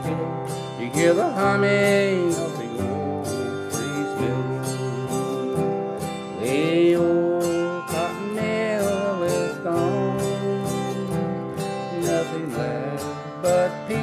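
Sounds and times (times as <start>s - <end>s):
acoustic guitar strumming: 0.0s - 14.0s
held wavering melody line: 0.0s - 14.0s.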